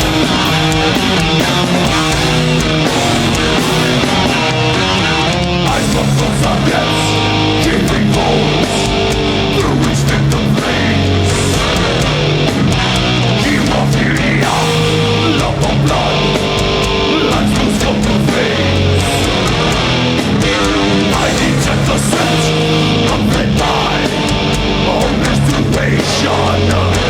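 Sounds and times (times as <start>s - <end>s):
heavy metal band playing live: 0.0s - 27.0s.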